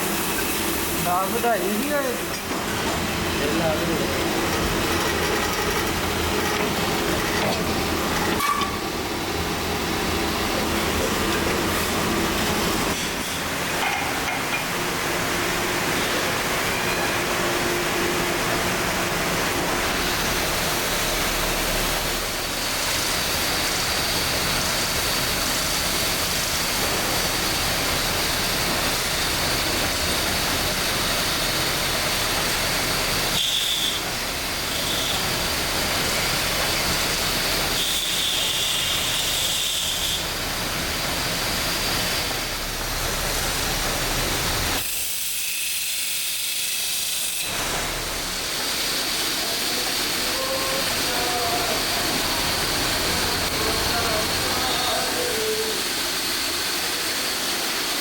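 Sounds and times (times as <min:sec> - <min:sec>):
factory machinery running: 0:00.0 - 0:58.0.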